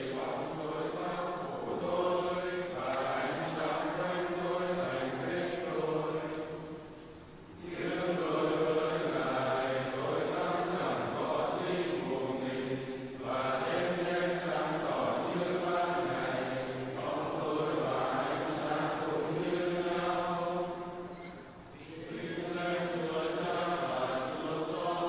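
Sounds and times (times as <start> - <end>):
congregation chanting in unison: 0.0 - 25.0.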